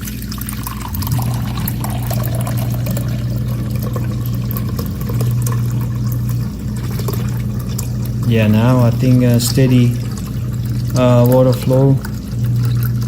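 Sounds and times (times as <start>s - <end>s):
refrigerator low hum: 0.0s - 13.0s
water running into a container: 0.0s - 13.0s.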